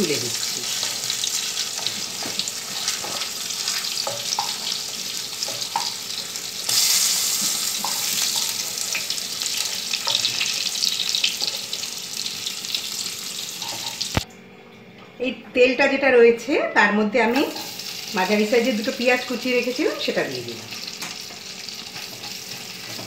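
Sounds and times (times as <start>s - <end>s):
slices sizzling in oil: 0.0s - 14.2s, 17.3s - 23.0s.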